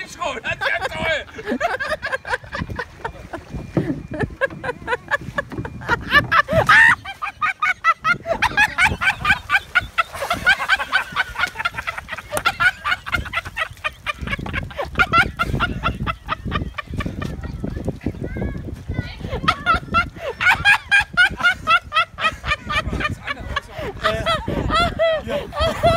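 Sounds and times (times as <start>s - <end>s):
person cackling laughter: 1.3s - 17.4s, 19.3s - 25.9s.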